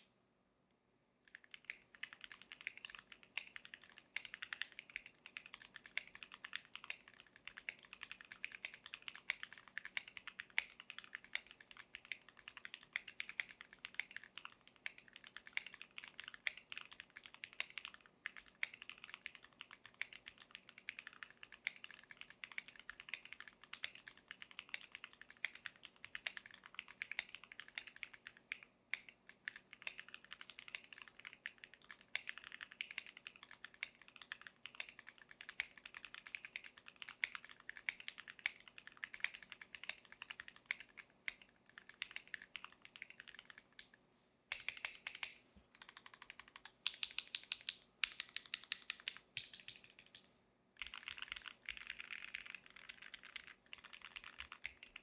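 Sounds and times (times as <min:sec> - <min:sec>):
mechanical keyboard typing: 0:01.3 - 0:43.9, 0:44.5 - 0:55.0.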